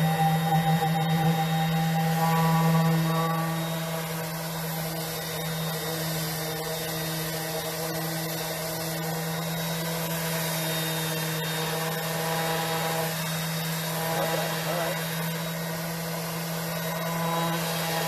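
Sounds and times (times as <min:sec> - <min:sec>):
power sander on wood: 0:00.0 - 0:18.0.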